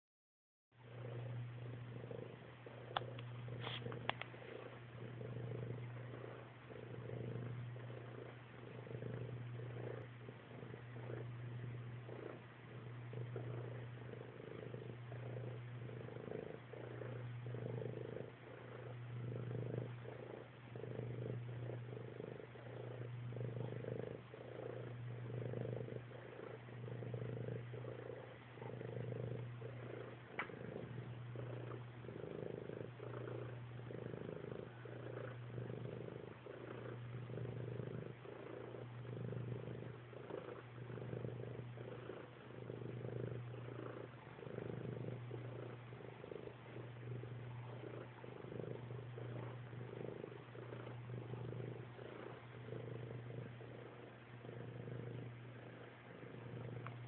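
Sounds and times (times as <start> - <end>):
cat purring: 0.8 - 57.0.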